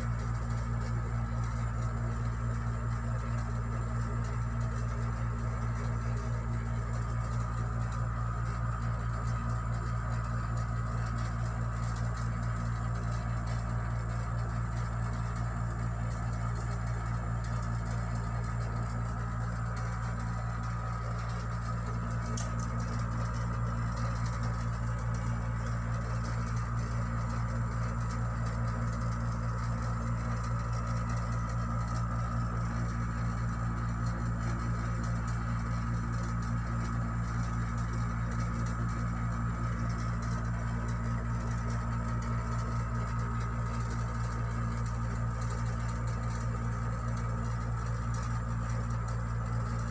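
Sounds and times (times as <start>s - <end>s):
low machine hum with tones: 0.0s - 49.9s.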